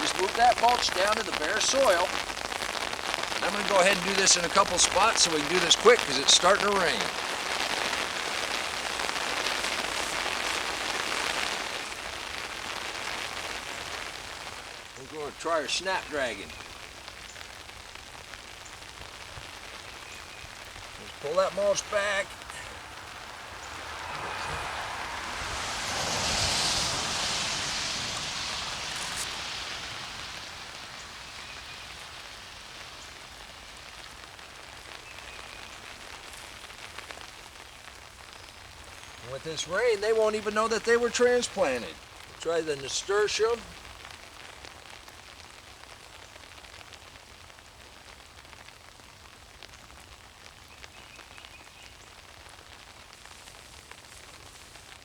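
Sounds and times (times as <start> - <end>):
rain pattering on garden: 0.0 - 55.0.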